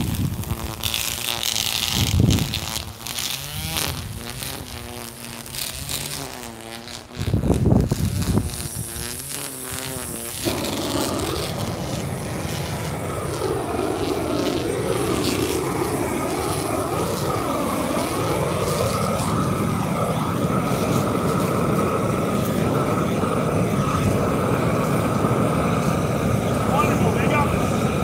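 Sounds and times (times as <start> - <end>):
power tool motor running: 0.0 - 28.0.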